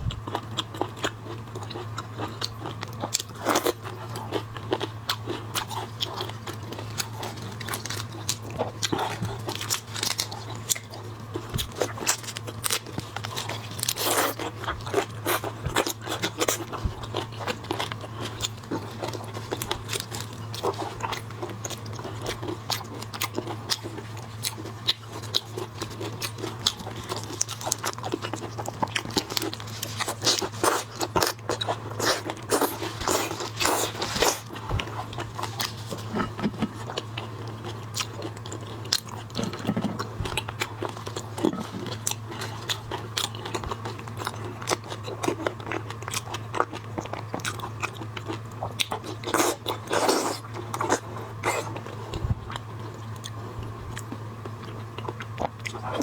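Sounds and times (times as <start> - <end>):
crunching and wet chewing: 0.0 - 56.0.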